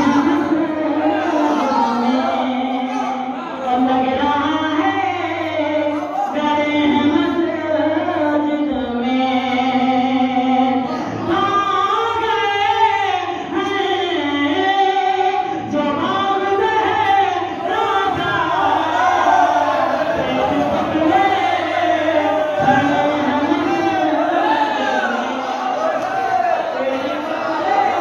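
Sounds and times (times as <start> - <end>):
person singing: 0.0 - 28.0.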